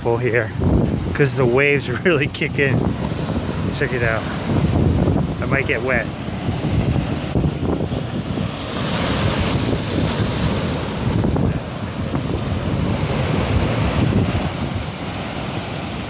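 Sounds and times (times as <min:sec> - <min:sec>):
ocean waves crashing: 0:00.0 - 0:16.0
wind rumbling on microphone: 0:00.0 - 0:16.0.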